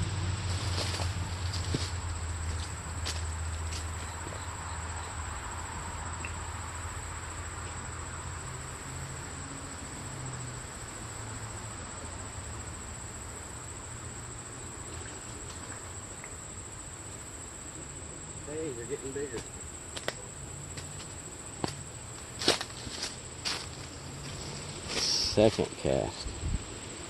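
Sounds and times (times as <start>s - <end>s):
insect chorus trilling: 0.0s - 27.0s.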